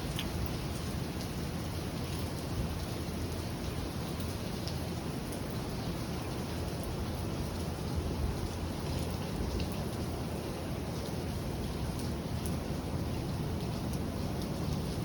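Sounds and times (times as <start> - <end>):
faint raindrop ticks: 0.0 - 7.7, 8.4 - 15.0
steady rain falling: 0.0 - 15.0.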